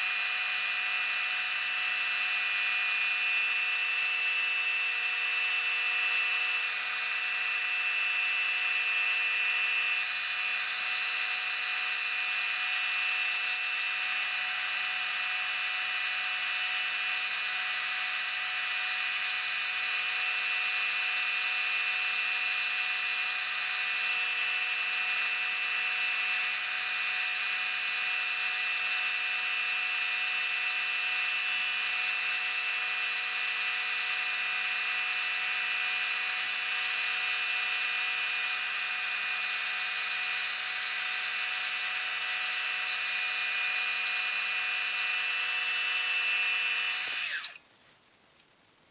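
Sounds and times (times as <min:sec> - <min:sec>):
lathe motor whine: 0:00.0 - 0:47.6.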